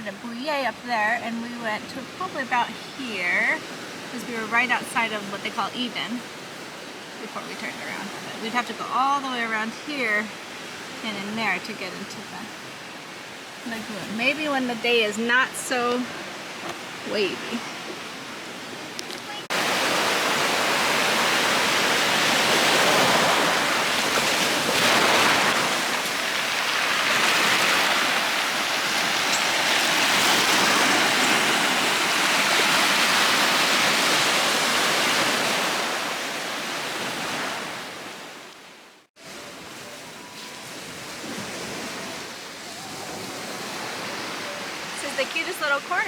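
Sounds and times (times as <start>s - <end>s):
waves washing onto shore: 0.0s - 46.0s.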